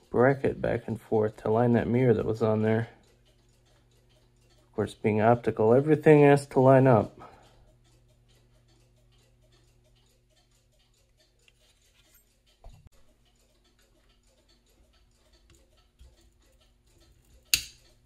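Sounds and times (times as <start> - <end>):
faint even ticking: 0.0 - 18.0.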